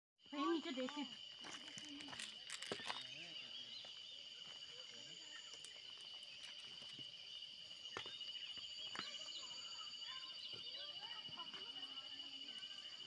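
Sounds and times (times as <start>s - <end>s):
insects trilling: 0.2s - 13.0s
short insect chirps: 0.2s - 13.0s.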